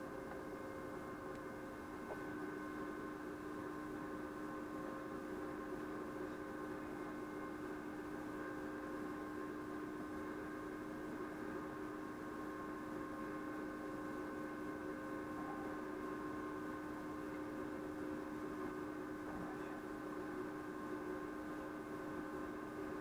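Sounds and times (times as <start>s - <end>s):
electrical hum with tones: 0.0s - 23.0s.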